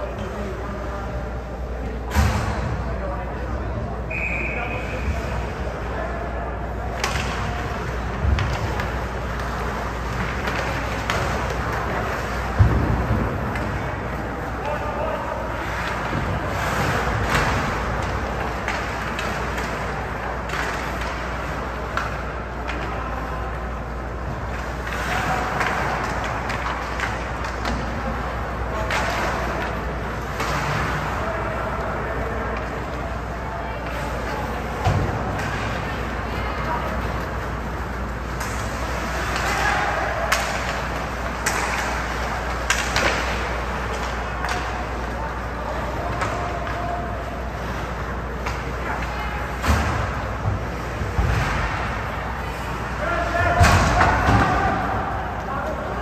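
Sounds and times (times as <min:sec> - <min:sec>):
arena background noise: 0:00.0 - 0:56.0
rink noise with low hum: 0:00.0 - 0:56.0
hockey sticks and puck clacking: 0:06.6 - 0:56.0.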